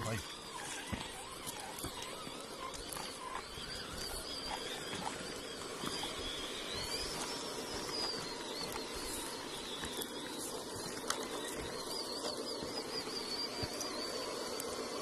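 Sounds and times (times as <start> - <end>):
gravel crunching under tyres: 0.0 - 15.0
steady noisy hiss: 0.0 - 15.0.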